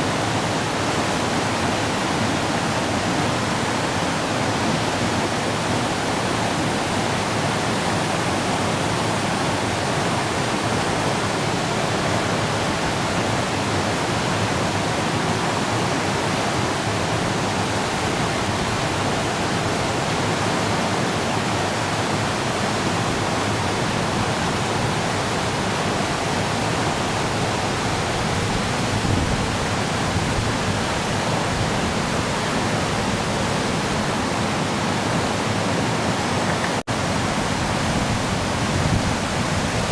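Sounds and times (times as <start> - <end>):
flooded river roaring: 0.0 - 39.9.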